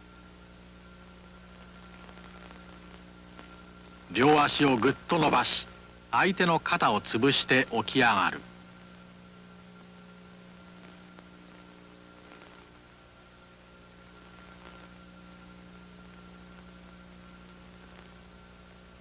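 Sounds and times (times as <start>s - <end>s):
electrical hum: 0.0s - 19.0s
faint hiss: 0.0s - 19.0s.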